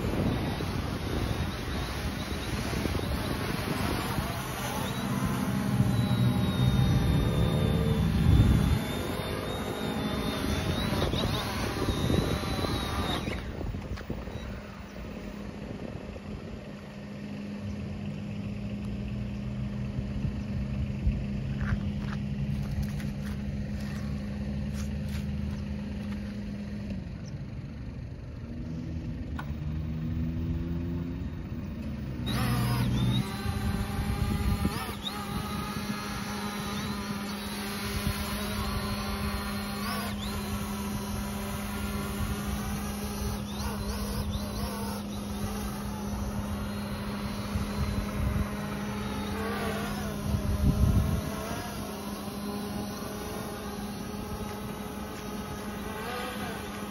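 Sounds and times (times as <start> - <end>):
drone motor whine: 0.0 - 56.9
low steady hum: 0.0 - 56.9.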